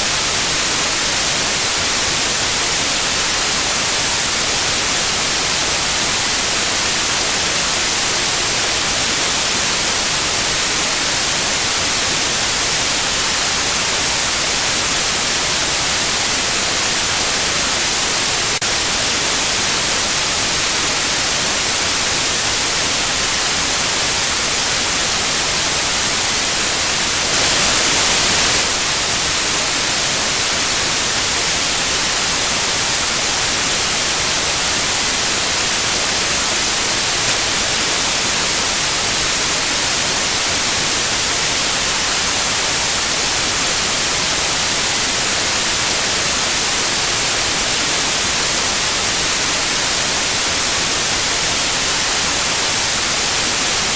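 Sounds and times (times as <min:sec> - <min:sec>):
high pure tone: 0:00.0 - 0:53.4
white noise hiss: 0:00.0 - 0:53.9.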